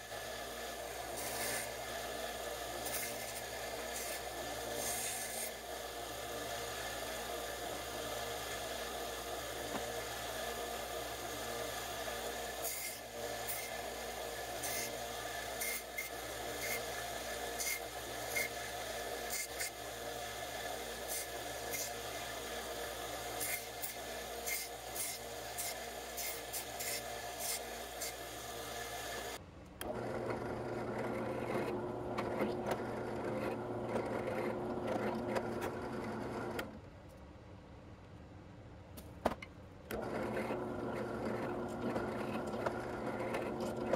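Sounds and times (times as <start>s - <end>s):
belt sander running: 0.0s - 36.7s, 39.9s - 43.9s
drill press running: 0.0s - 36.8s, 39.9s - 43.9s.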